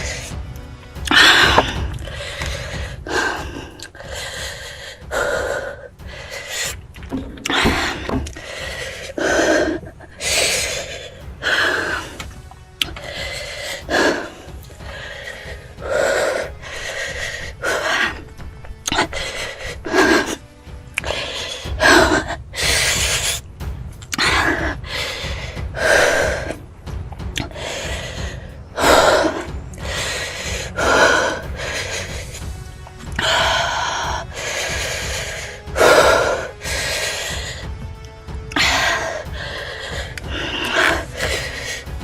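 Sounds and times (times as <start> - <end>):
person gasping and breathing heavily: 0.0 - 26.6, 27.2 - 42.0
background music: 0.0 - 42.0.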